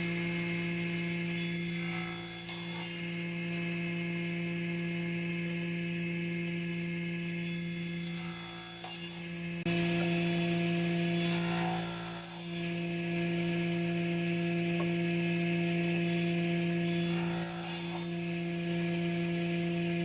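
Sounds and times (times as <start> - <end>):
power tool motor humming: 0.0 - 20.0.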